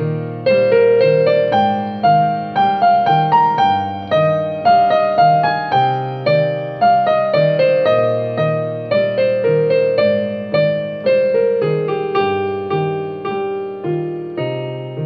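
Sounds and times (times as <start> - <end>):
slow gentle piano melody: 0.0 - 15.0.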